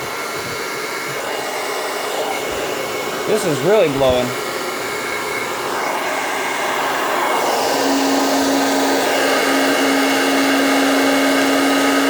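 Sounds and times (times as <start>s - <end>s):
hair dryer blowing air: 0.0s - 12.0s.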